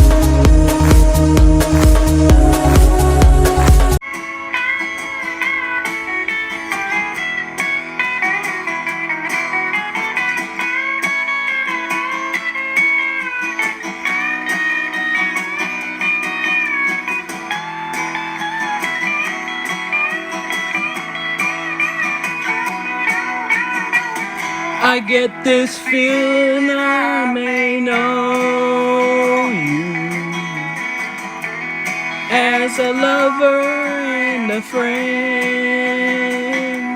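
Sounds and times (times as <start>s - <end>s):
guitar song with steady beat: 0.0s - 36.9s.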